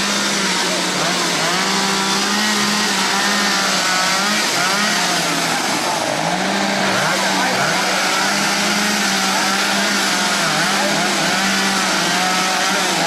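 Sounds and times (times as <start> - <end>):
chainsaws carving wood: 0.0 - 13.0.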